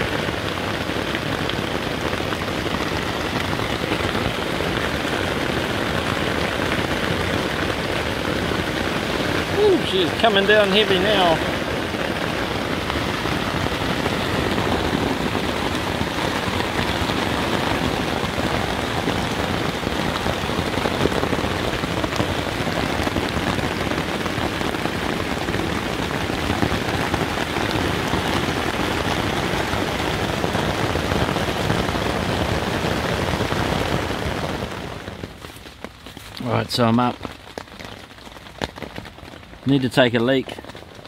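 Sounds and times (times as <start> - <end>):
heavy rain on tent fabric: 0.0 - 41.0.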